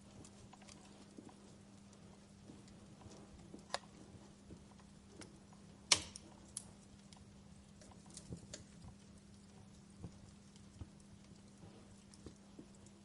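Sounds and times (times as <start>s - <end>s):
faint steady hum: 0.0s - 13.0s
wood fire crackling: 0.0s - 13.0s.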